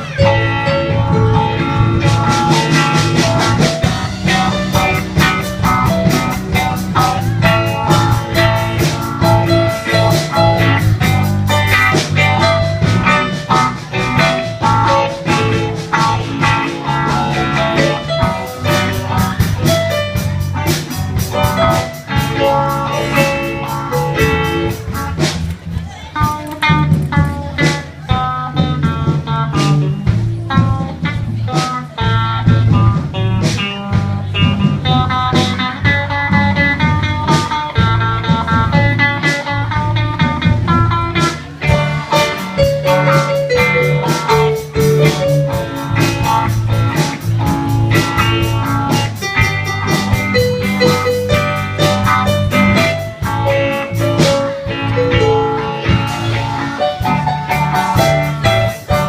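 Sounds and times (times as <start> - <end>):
bass line and beat: 0.0 - 59.0
plucked blues guitar melody: 0.0 - 59.0.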